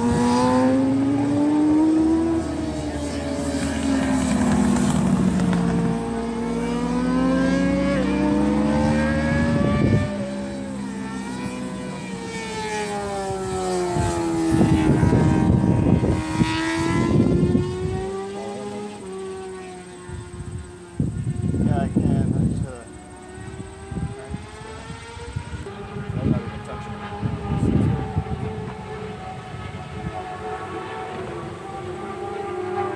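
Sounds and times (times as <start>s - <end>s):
drone propellers whining: 0.0s - 32.9s.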